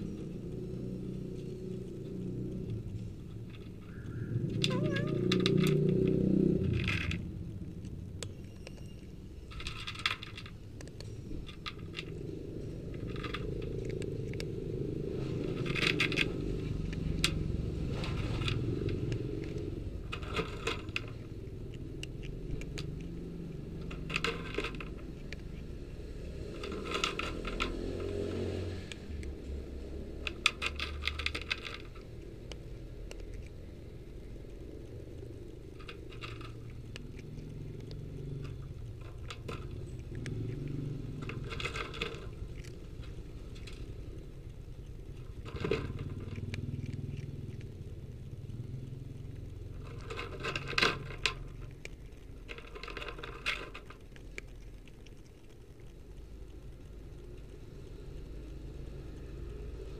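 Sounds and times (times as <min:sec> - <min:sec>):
steady low rumble: 0:00.0 - 0:27.6, 0:28.8 - 0:59.9
cat crunching dry kibble: 0:00.0 - 0:59.9.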